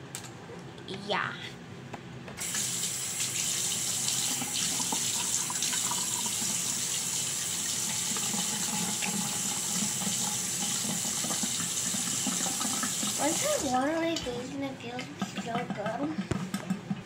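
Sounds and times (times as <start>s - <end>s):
tap water running: 2.4s - 17.0s.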